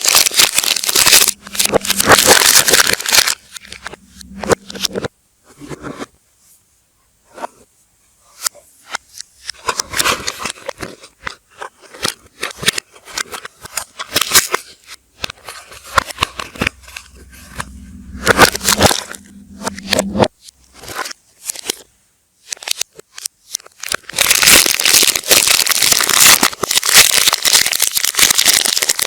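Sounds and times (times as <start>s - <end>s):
wrappers crinkling and scraping: 0.0s - 5.1s, 9.5s - 29.0s.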